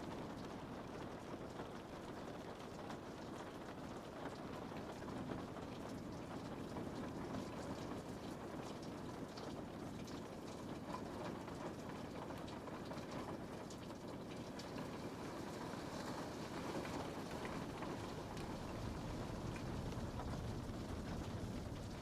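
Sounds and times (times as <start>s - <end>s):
rain on a window: 0.0s - 22.0s.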